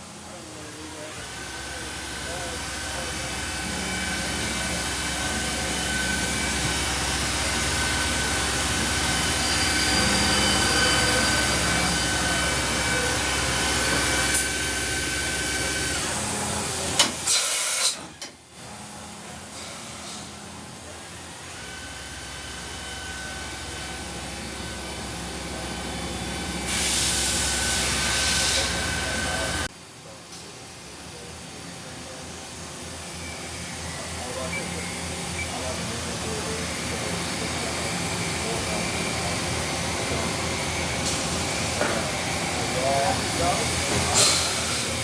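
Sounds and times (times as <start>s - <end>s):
machining center whirring hiss: 0.0s - 45.0s.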